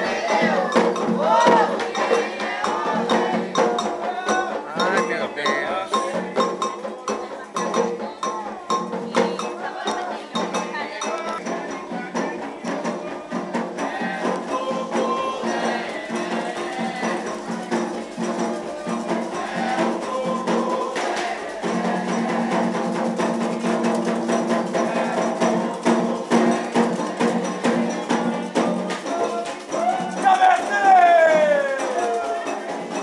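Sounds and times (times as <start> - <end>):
hand drums: 0.0 - 33.0
struck bell rhythm: 0.0 - 33.0
voices singing: 0.0 - 33.0.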